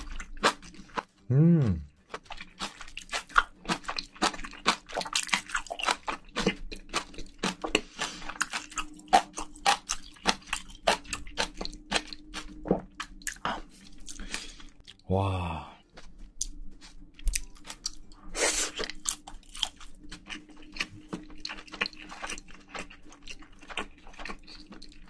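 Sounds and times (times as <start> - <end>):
chewing and crunching food: 0.0 - 15.1, 15.8 - 25.0.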